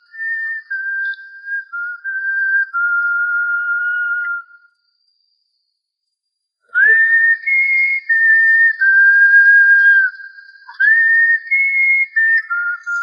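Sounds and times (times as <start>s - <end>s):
whistled melody: 0.0s - 4.8s, 6.7s - 13.0s.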